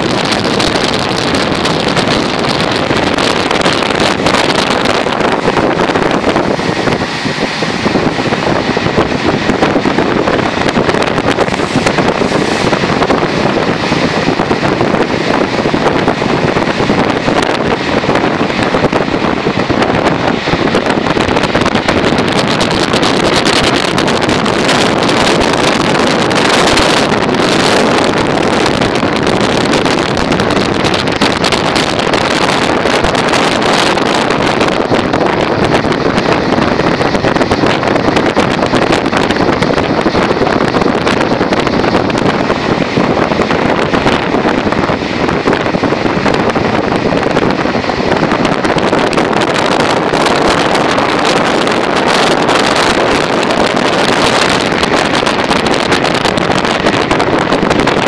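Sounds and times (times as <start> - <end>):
train wheels on rails: 0.0 - 58.0
wind rushing on microphone: 0.0 - 58.0.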